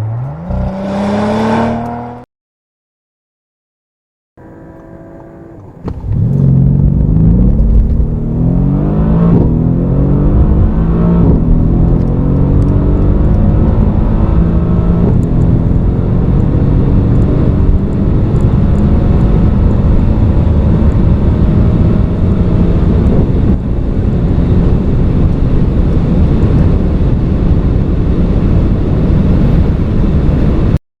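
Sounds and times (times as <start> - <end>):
sports car engine accelerating: 0.0 - 2.2, 4.4 - 30.7.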